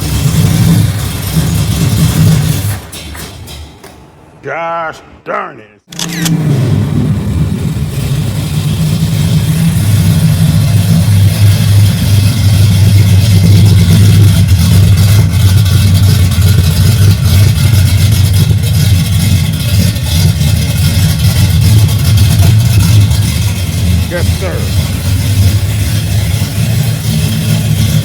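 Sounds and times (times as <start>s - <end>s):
engine idling: 0.0s - 3.8s, 5.9s - 28.0s.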